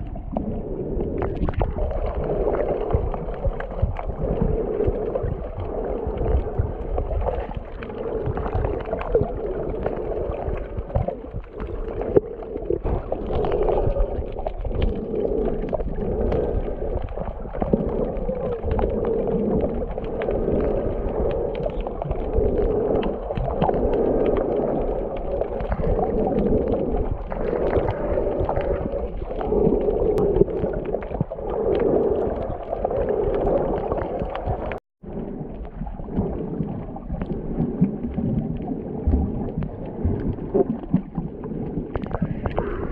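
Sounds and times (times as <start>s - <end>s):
underwater rush of water: 0.0s - 42.9s.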